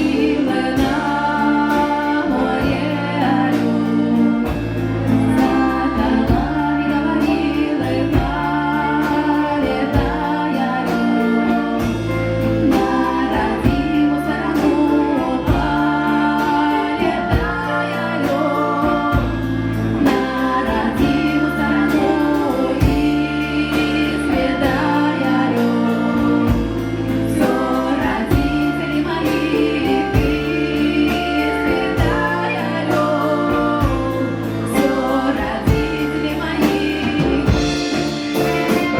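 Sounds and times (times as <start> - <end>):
folk-rock band with drums and bass: 0.0 - 38.9
person singing: 0.0 - 38.9.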